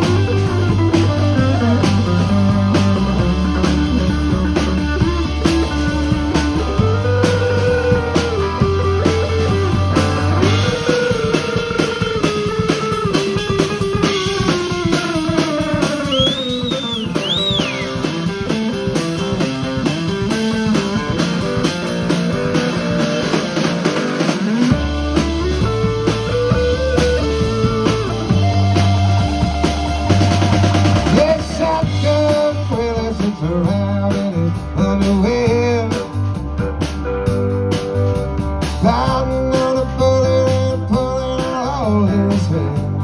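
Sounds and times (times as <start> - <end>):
deep bass: 0.0 - 43.0
drum kit: 0.0 - 43.0
electric guitar lead: 0.0 - 43.0.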